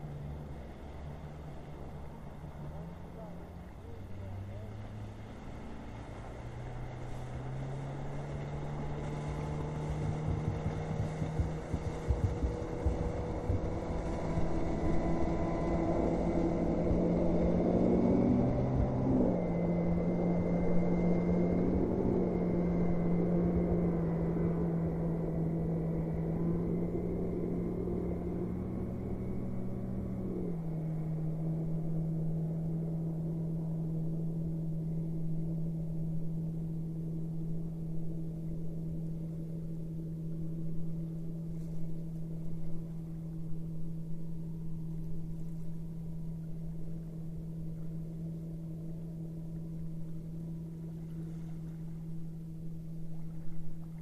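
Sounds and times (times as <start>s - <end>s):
boat motor running: 0.0s - 54.0s
turboprop aircraft passing: 0.0s - 54.0s.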